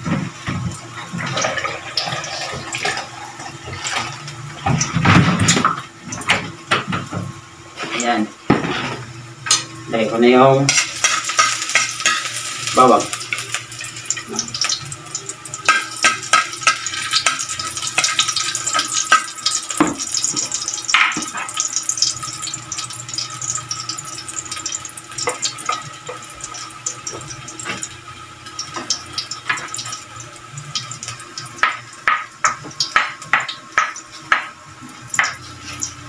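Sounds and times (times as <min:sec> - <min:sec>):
garlic sizzling in hot oil: 0:00.0 - 0:04.9, 0:07.6 - 0:36.0.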